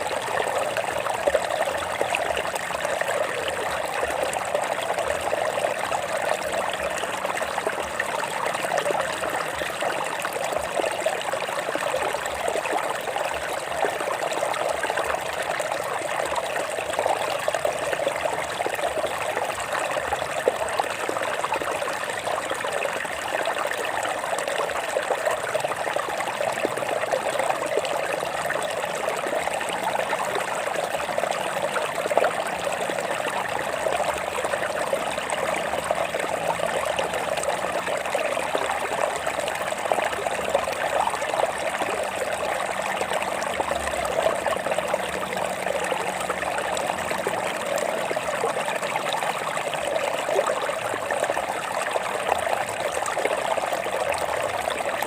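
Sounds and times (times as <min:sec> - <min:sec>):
water running over rocks: 0:00.0 - 0:55.0.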